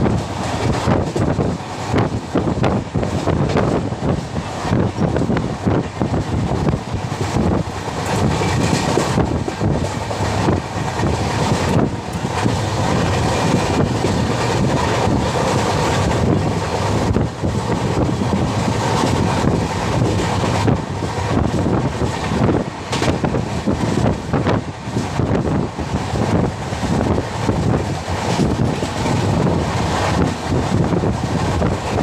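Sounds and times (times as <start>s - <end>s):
train wheels rumbling on rails: 0.0s - 32.0s
wind buffeting microphone: 0.0s - 32.0s.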